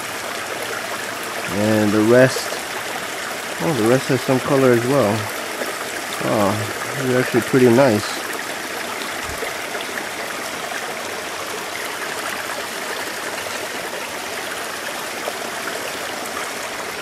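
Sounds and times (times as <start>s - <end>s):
water running over rocks: 0.0s - 17.0s.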